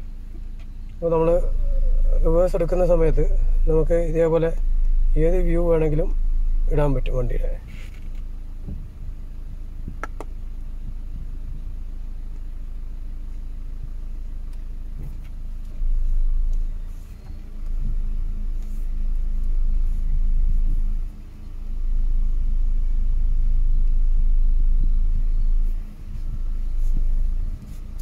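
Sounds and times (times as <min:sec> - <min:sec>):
low rumble inside car: 0:00.0 - 0:28.0
steady car hum: 0:00.0 - 0:28.0.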